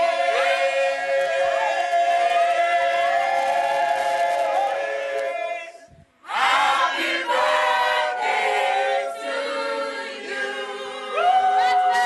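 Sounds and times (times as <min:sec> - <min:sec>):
group singing unaccompanied: 0:00.0 - 0:02.4, 0:03.9 - 0:12.0.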